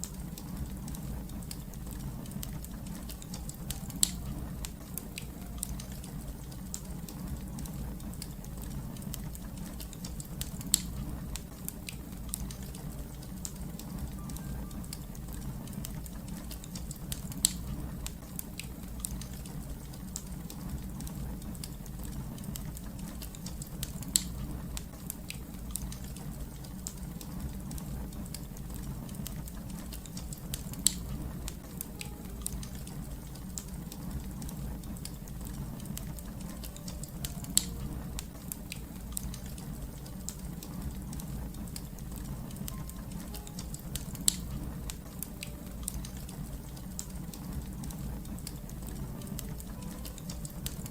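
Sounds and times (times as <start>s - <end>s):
fire crackling in a fireplace: 0.0s - 50.9s.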